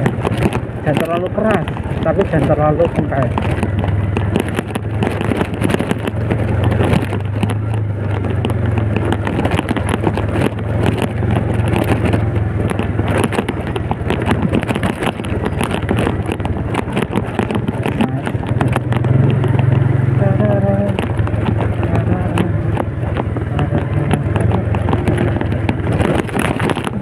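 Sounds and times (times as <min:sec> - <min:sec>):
knocks and rattles from bumps: 0:00.0 - 0:27.0
motorcycle engine running: 0:00.0 - 0:27.0
wind on microphone: 0:00.0 - 0:27.0.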